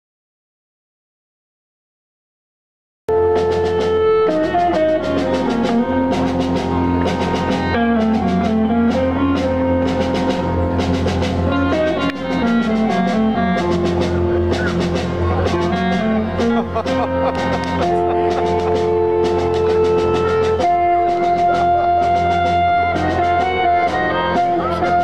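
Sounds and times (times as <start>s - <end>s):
accordion: 3.1s - 25.0s
bass guitar: 3.1s - 25.0s
clarinet: 3.1s - 25.0s
drum kit steady beat: 3.1s - 25.0s
electric guitars: 3.1s - 25.0s.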